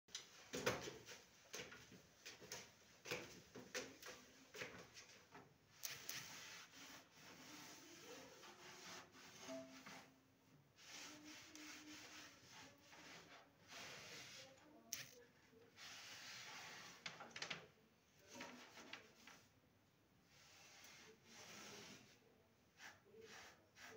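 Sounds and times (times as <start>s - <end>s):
faint rubbing and shuffling: 0.4s - 19.6s, 20.2s - 23.9s.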